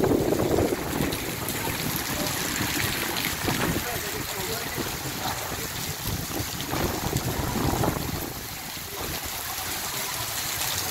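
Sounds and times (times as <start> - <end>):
wind buffeting microphone: 0.0 - 9.6
heavy rain falling: 0.0 - 10.9.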